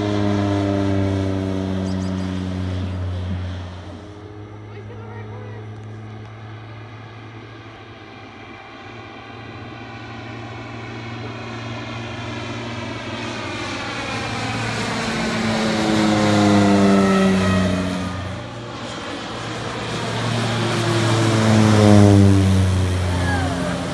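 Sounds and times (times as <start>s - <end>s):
propeller plane engine passing: 0.0s - 23.9s.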